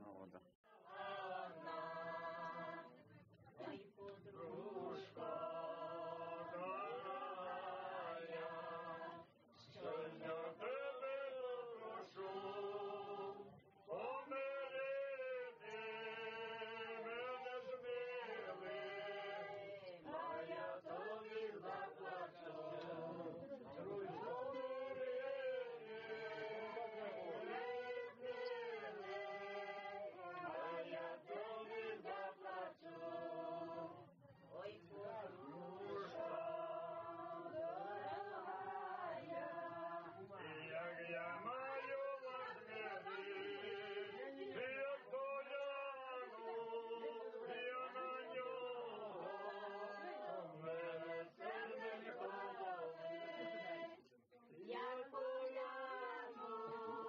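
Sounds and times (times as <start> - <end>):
women singing unaccompanied: 0.8 - 14.0, 15.6 - 45.6, 46.2 - 57.0.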